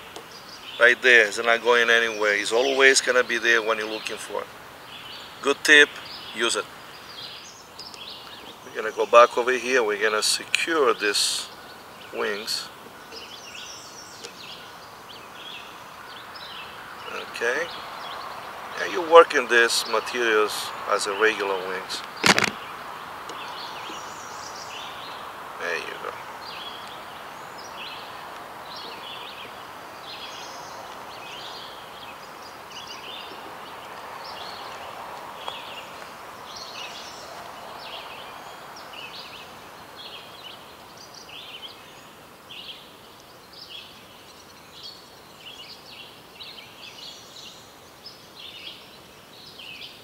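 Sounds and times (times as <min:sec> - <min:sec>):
small birds chirping: 0:00.0 - 0:50.0
steady background hiss: 0:00.0 - 0:50.0.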